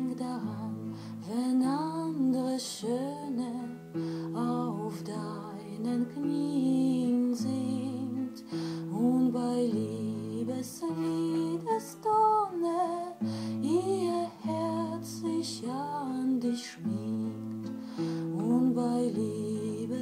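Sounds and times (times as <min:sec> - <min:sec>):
soft plucked guitar: 0:00.0 - 0:20.0
woman singing with vibrato: 0:00.0 - 0:20.0.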